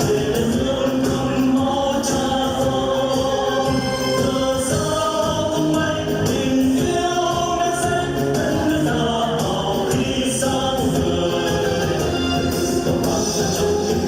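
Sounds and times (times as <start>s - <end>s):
group of voices singing: 0.0s - 14.0s
instrumental accompaniment: 0.0s - 14.0s.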